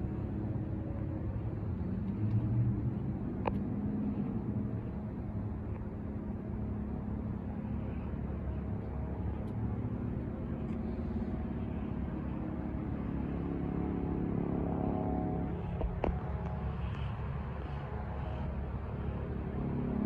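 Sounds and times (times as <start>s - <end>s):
helicopter passing overhead: 0.0s - 20.0s.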